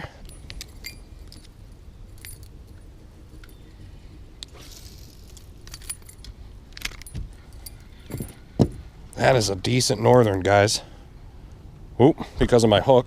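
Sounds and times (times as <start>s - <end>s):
low steady rumble: 0.0s - 13.0s
light metallic jingling: 0.2s - 10.9s.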